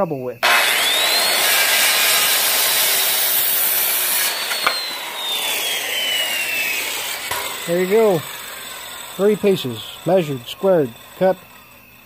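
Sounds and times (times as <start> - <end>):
circular saw cutting wood: 0.4 - 12.0.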